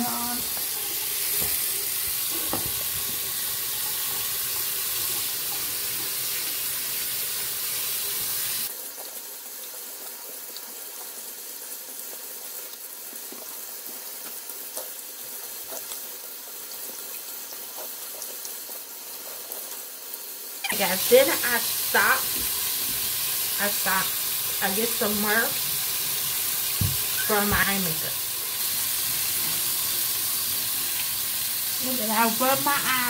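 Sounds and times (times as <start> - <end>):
tap water running: 0.0 - 33.0.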